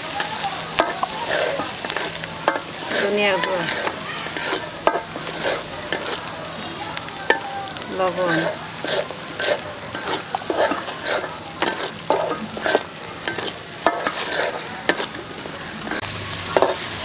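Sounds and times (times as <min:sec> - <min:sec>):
metal spatula scraping wok: 0:00.0 - 0:06.4, 0:07.2 - 0:17.0
spice paste sizzling: 0:00.0 - 0:17.0.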